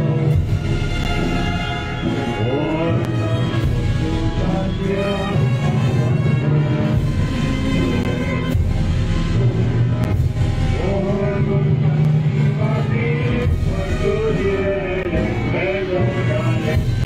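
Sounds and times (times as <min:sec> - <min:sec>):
slow band music: 0:00.0 - 0:17.0.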